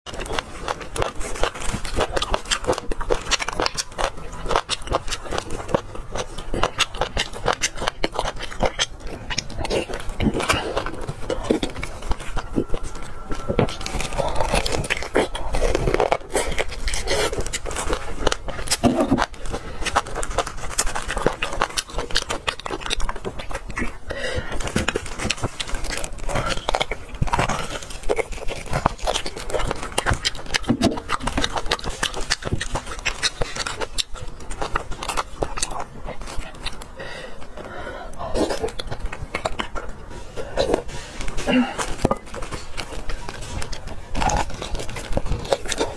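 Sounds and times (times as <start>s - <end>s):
sucking and chewing: 0.1s - 45.9s.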